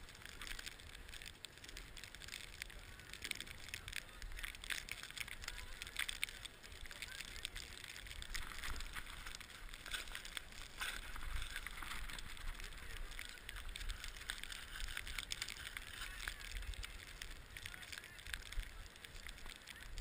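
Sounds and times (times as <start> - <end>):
skis scraping over snow: 0.0 - 20.0.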